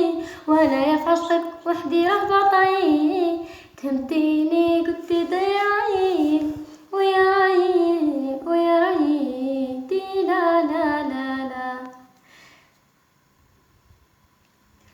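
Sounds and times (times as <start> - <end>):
woman singing unaccompanied: 0.0 - 12.2.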